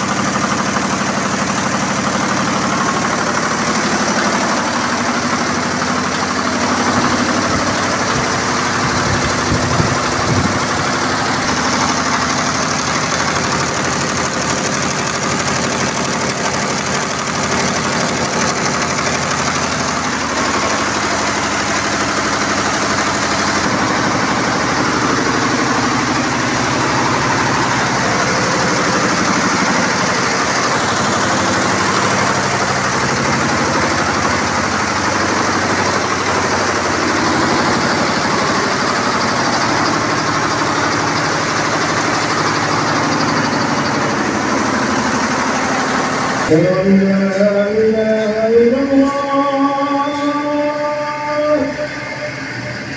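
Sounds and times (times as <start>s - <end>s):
embroidery machine stitching: 0.0s - 46.5s.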